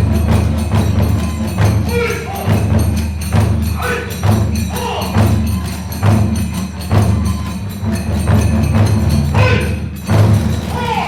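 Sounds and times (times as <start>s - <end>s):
hand cymbals clashing: 0.0s - 11.0s
taiko drums beating: 0.0s - 11.0s.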